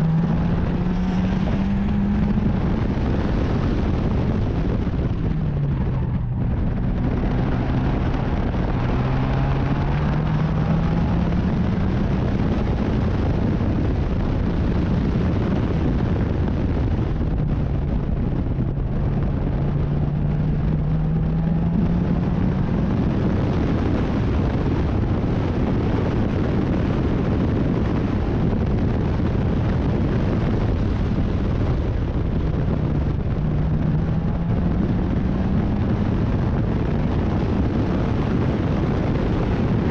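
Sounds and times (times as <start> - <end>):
race car engine accelerating: 0.0 - 39.9
wind buffeting microphone: 0.0 - 39.9.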